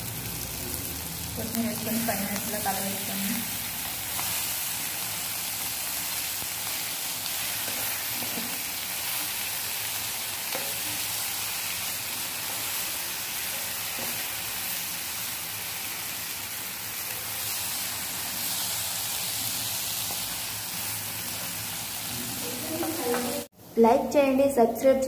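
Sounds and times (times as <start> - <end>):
curry sizzling in oil: 0.0 - 23.6.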